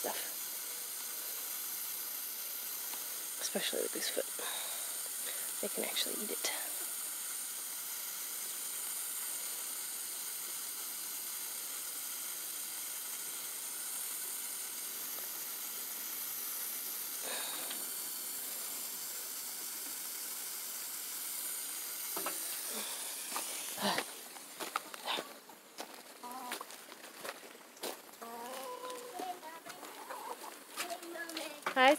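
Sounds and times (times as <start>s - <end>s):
high-pitched hiss: 0.0s - 31.9s.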